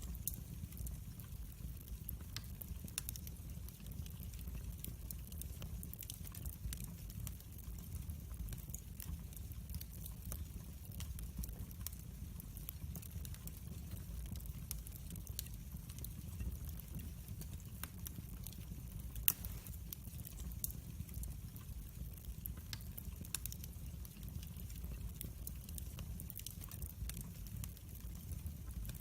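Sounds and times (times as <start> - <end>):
log fire crackling and popping: 0.0 - 29.0
low rumble of fire: 0.0 - 29.0.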